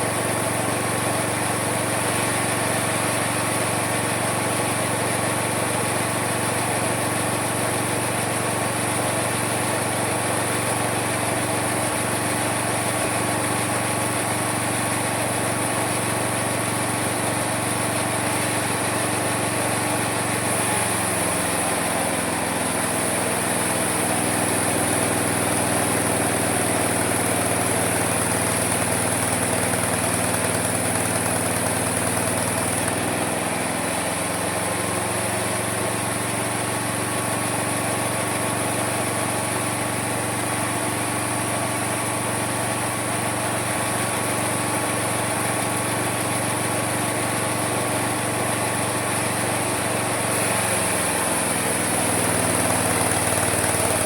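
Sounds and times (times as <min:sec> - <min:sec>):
sawmill whining: 0:00.0 - 0:54.0.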